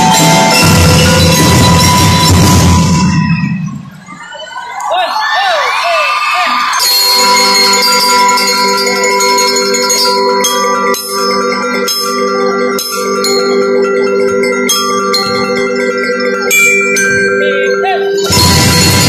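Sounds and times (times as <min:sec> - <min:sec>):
glockenspiel notes ringing: 0:00.0 - 0:04.0, 0:06.7 - 0:19.0.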